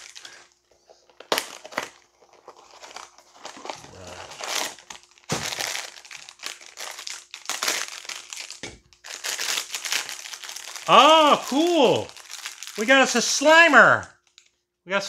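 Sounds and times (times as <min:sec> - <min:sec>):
foil bag crinkling and tearing: 0:00.0 - 0:14.5.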